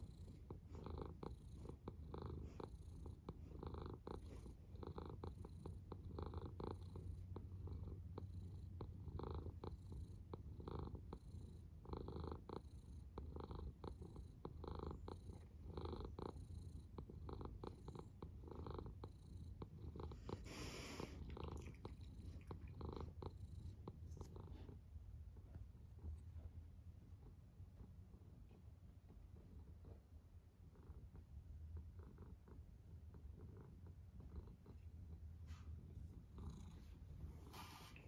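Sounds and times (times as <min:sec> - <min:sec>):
cat purring: 0:00.0 - 0:38.0.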